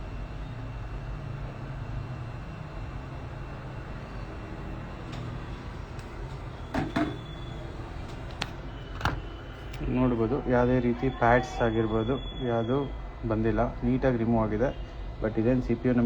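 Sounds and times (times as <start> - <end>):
fan humming: 0.0 - 16.0.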